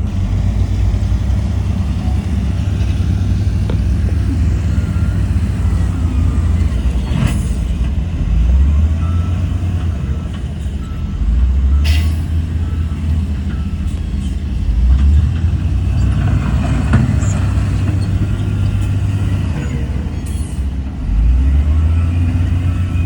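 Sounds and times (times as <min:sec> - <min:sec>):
heavy diesel machinery rumbling: 0:00.0 - 0:23.0.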